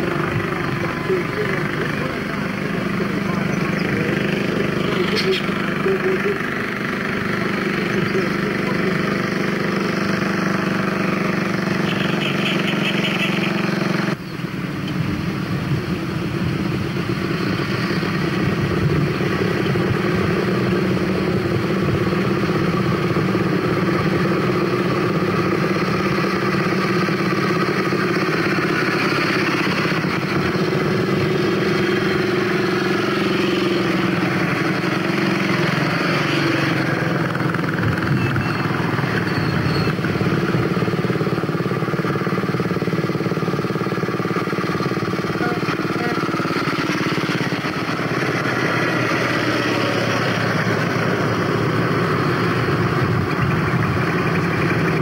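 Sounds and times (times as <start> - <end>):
motorcycles riding past: 0.0 - 14.4, 15.1 - 55.0.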